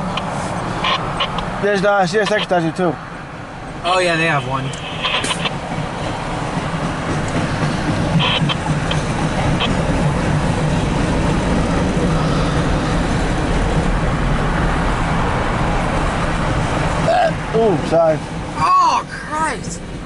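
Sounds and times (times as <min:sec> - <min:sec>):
train wheels rumbling on track: 0:03.7 - 0:20.0.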